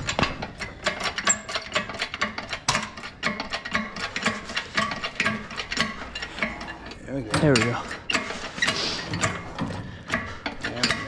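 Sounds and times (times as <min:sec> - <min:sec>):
hoist chain clicking and clanking: 0:00.0 - 0:11.0.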